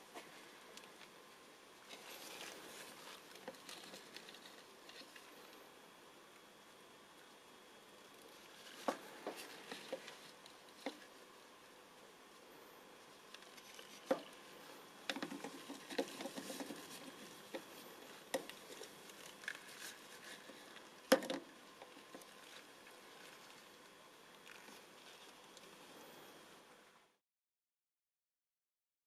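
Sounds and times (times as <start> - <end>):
faint room hiss: 0.0 - 27.2.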